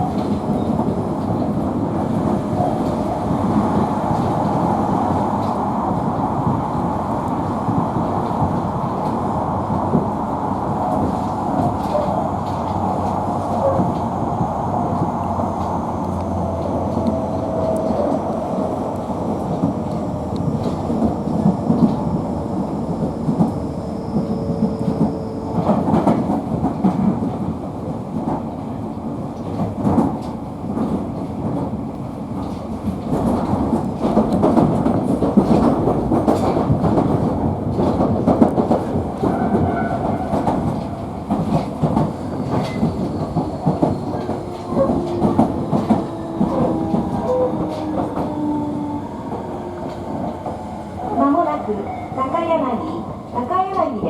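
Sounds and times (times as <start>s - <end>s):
train rumble from inside: 0.0s - 54.0s.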